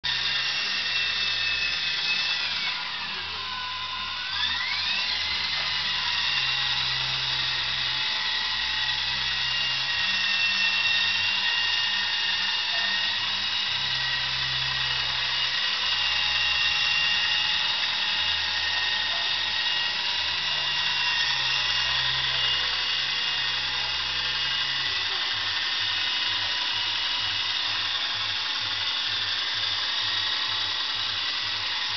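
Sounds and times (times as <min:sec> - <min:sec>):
model helicopter rotor whine: 0:00.0 - 0:31.9.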